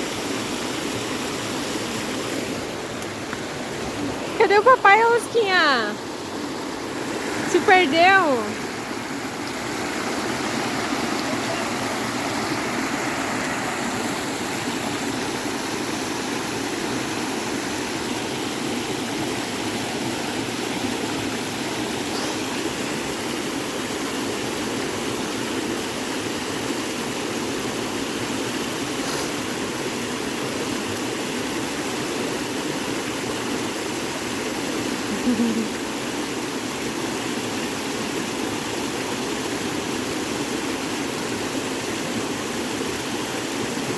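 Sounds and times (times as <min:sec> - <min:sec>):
creek rushing: 0:00.0 - 0:43.9.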